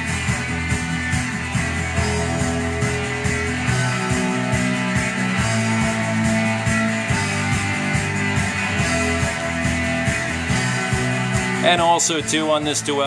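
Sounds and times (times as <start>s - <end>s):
guitar music with steady beat: 0.0s - 13.0s.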